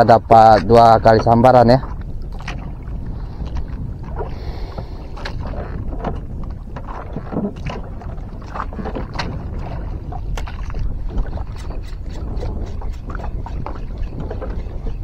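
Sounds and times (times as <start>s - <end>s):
water slapping against hull: 0.0s - 15.0s
wind rumble on microphone: 0.0s - 15.0s.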